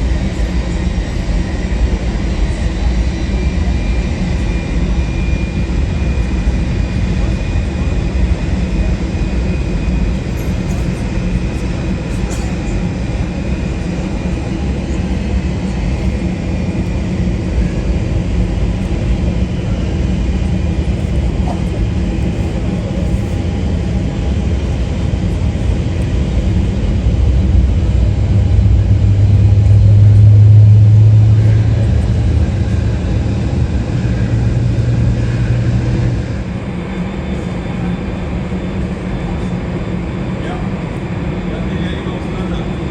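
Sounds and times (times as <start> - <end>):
jet engines rumbling: 0.0 - 42.9.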